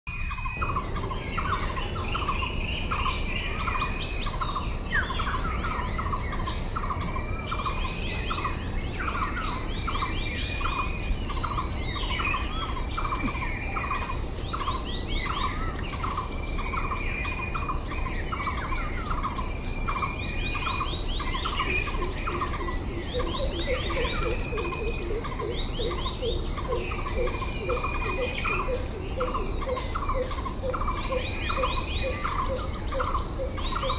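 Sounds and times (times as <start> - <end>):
birds chirping and calling: 0.1 - 33.9
high insect drone: 0.1 - 33.9
low rapidly repeated bird call: 0.1 - 33.9.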